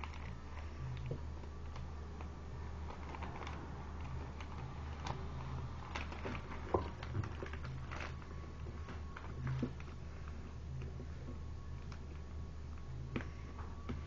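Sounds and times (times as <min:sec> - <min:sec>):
paper crinkling: 0:00.0 - 0:13.4
steady low hum: 0:00.0 - 0:14.0.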